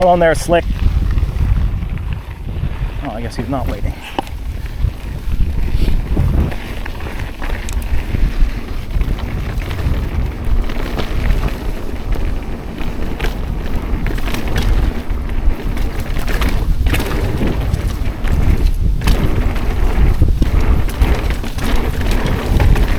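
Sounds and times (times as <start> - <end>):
bike clicks and rattles: 0.0 - 22.9
wind buffeting microphone: 0.0 - 22.9.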